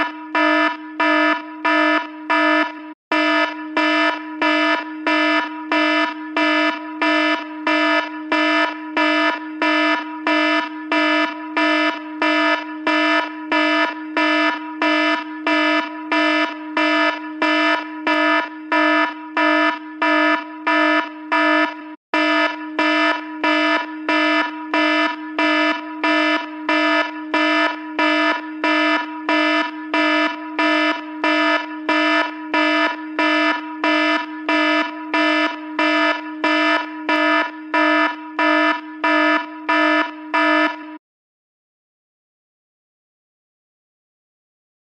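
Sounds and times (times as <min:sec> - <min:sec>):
phone alarm beeping: 0:00.0 - 0:41.0.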